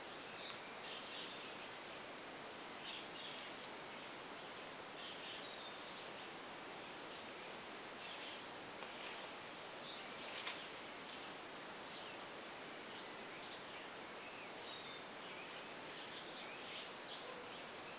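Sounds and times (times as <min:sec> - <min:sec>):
outdoor background hiss: 0:00.0 - 0:17.9.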